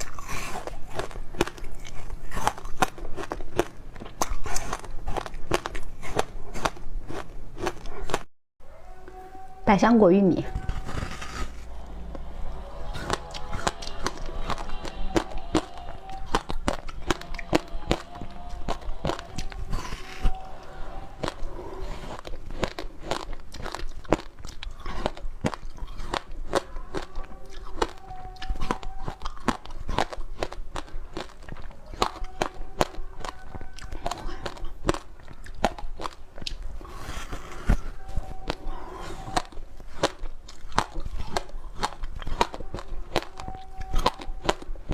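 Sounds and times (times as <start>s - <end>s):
crunching and chewing frozen food: 0.0s - 8.3s, 10.5s - 44.9s.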